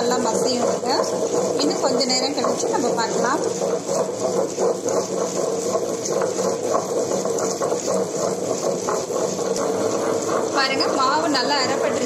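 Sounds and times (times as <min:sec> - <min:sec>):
motor hum: 0:00.0 - 0:12.0
wet grinder churning batter: 0:00.0 - 0:12.0.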